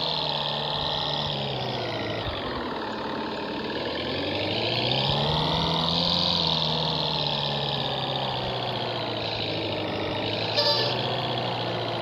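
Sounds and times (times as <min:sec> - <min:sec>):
jeep engine revving: 0:00.0 - 0:12.0.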